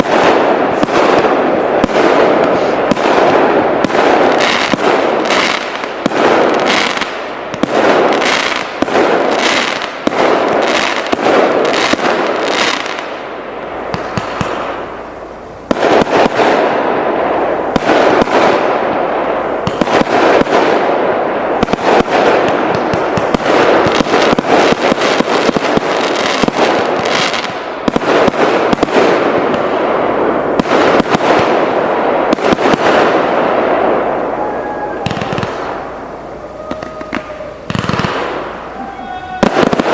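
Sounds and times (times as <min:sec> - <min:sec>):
firework crackling: 0:00.0 - 0:39.9
firework shots and bursts: 0:00.0 - 0:39.9.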